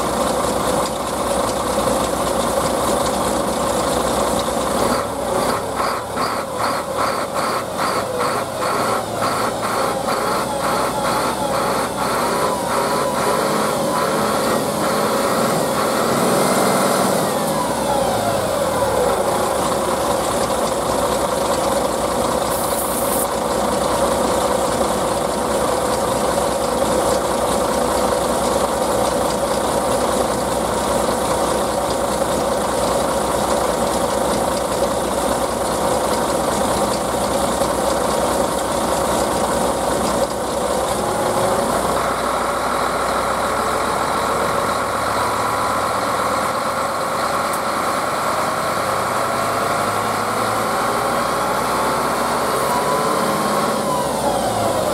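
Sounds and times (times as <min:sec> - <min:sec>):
bus engine idling: 0:00.0 - 0:16.4, 0:17.2 - 0:52.2.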